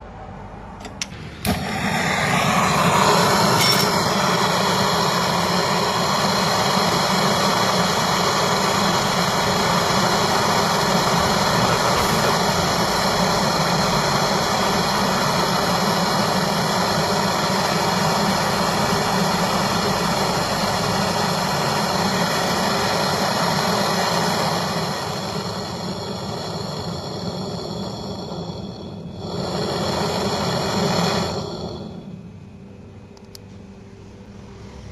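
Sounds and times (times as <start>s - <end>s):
brazing torch flame hissing: 1.0s - 32.4s.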